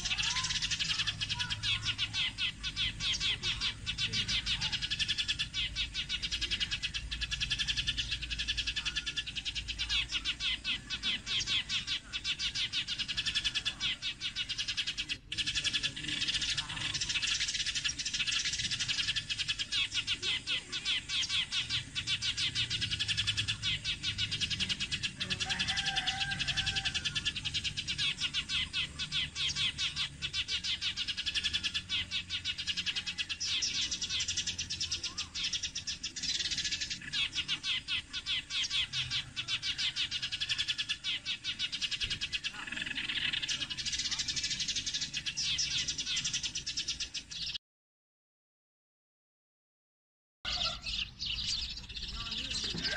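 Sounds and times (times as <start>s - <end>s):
low drawn-out bird call: 0.0s - 47.4s, 50.5s - 52.9s
sparrows chirping: 0.0s - 47.6s, 50.5s - 52.9s.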